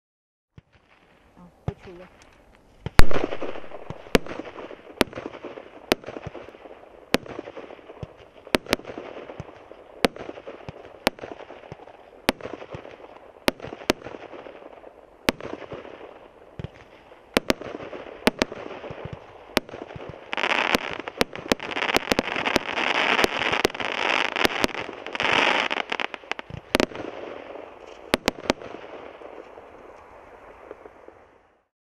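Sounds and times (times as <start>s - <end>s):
rapid firework pops: 1.7s - 31.1s
fireworks bangs: 2.8s - 31.7s.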